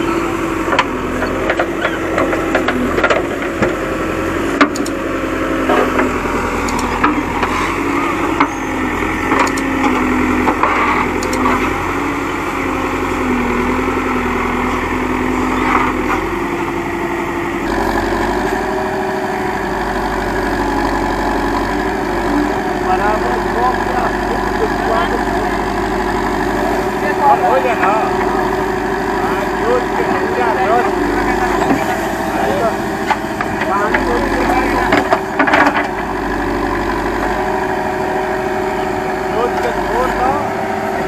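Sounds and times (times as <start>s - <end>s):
backhoe diesel engine revving: 0.0s - 41.0s.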